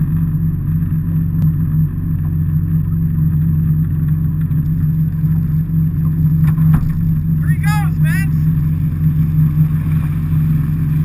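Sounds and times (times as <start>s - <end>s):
jet ski engine droning: 0.0s - 11.0s.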